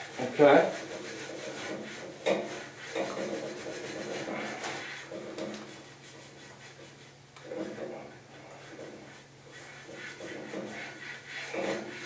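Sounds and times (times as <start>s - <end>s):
cloth rag rubbing on metal: 0.0s - 12.0s.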